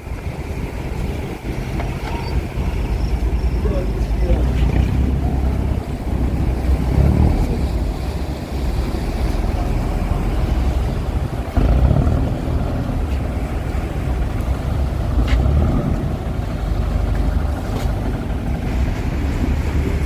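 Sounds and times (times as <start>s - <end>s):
boat engine rumbling: 0.0s - 20.0s
wind buffeting microphone: 0.0s - 20.0s.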